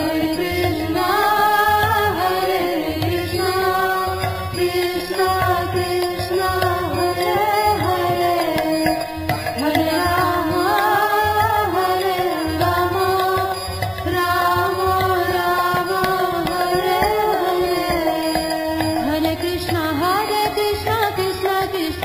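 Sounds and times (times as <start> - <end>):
person singing devotional song: 0.0 - 22.0
tabla: 0.0 - 22.0.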